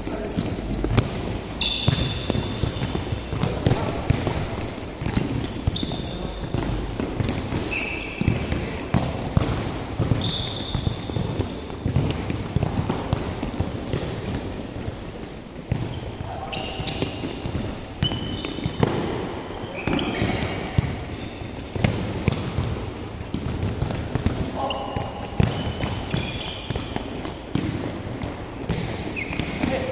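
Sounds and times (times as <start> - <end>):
ball kicked and bouncing: 0.1 - 29.9
trainers squeaking on floor: 1.5 - 8.8, 10.1 - 29.9.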